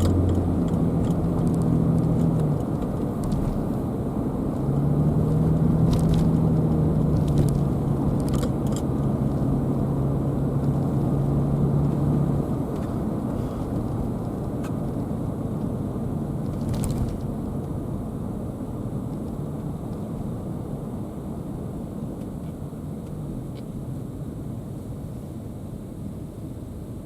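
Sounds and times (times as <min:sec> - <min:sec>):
car road and tyre noise: 0:00.0 - 0:27.0.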